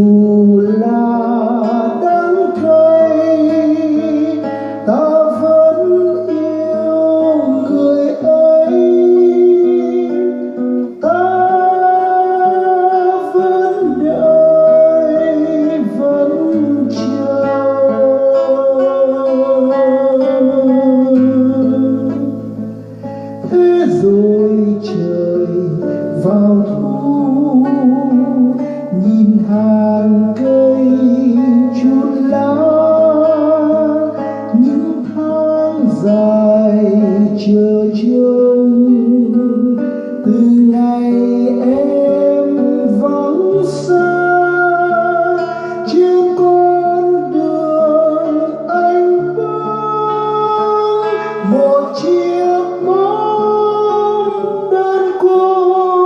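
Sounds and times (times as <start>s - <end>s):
instrumental ballad with guitar: 0.0s - 56.0s.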